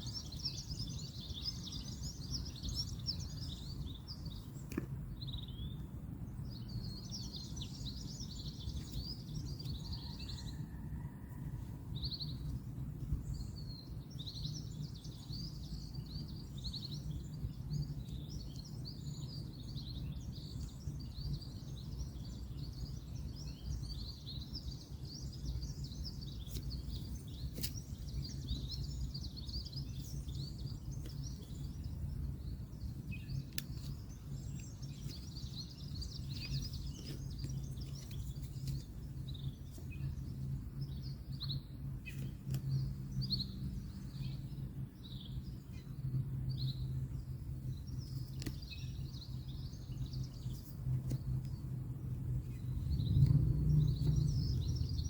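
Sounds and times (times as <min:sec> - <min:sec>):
distant road traffic: 0:00.0 - 0:55.0
small birds chirping: 0:00.0 - 0:55.0.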